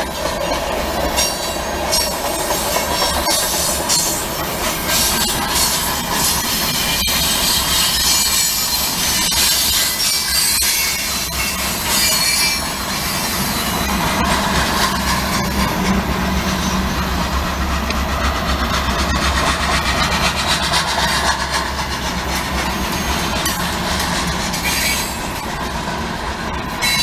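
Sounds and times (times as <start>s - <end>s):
wheels clicking over rail joints: 0.0s - 25.5s
freight train rumbling past: 0.0s - 27.0s.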